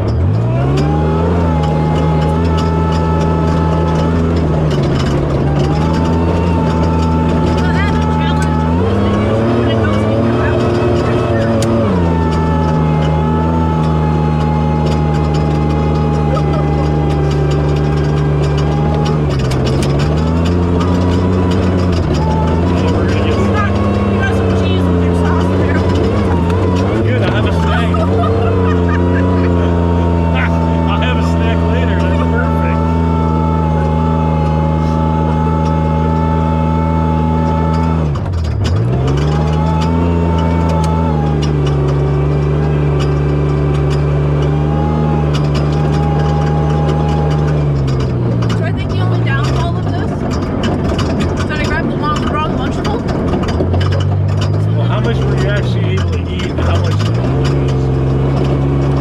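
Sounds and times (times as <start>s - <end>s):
clicks and knocks: 0.0s - 59.0s
truck engine running: 0.0s - 59.0s.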